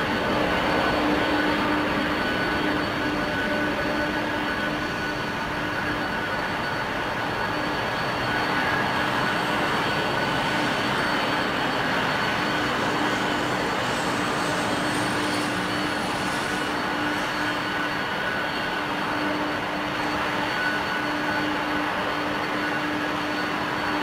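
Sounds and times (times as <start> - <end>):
jet engines running: 0.0 - 24.0
jet engines spooling up: 0.0 - 24.0.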